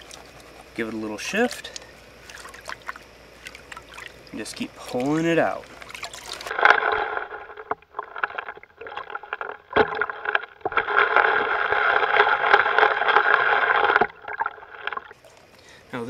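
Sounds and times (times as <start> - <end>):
water sloshing in a plastic pan: 0.0 - 15.6.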